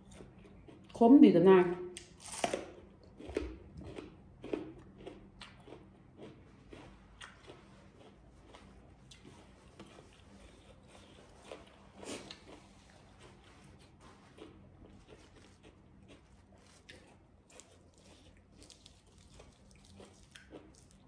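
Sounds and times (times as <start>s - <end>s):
crunchy chewing: 0.0s - 1.0s, 2.0s - 21.0s.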